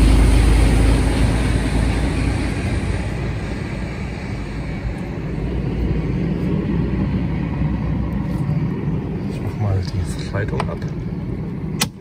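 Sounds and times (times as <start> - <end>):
passing road traffic rumble: 0.0 - 12.0.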